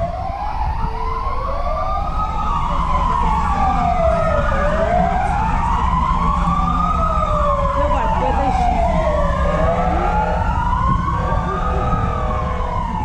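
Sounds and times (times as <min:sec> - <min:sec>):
low rumble: 0:00.0 - 0:13.0
sirens wailing: 0:00.0 - 0:13.0.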